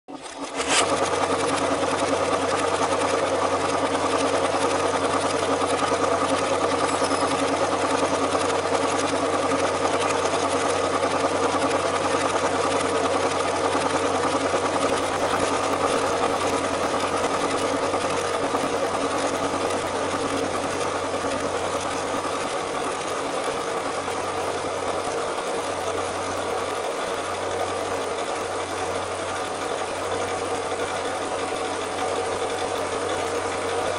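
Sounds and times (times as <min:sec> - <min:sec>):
film projector whirring: 0:00.1 - 0:33.9.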